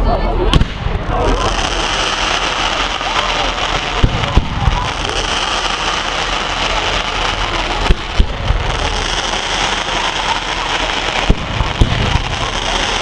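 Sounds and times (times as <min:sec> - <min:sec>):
fireworks crackling: 0:00.0 - 0:13.0
fireworks bangs: 0:00.4 - 0:13.0.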